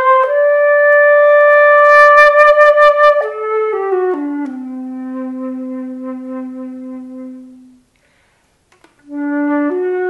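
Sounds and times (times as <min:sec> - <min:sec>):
wind instrument melody: 0:00.0 - 0:07.9, 0:09.0 - 0:10.0.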